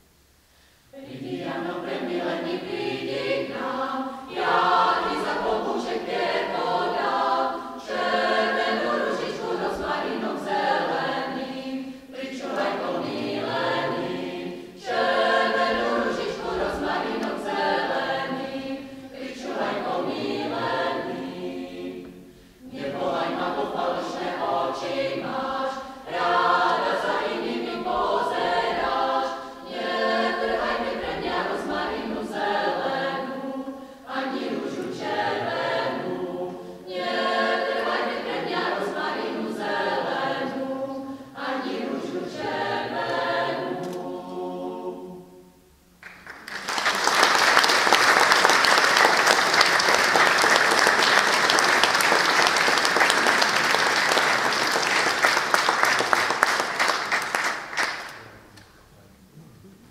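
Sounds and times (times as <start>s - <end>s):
mixed choir singing a cappella: 0.9s - 45.8s, 46.5s - 58.0s.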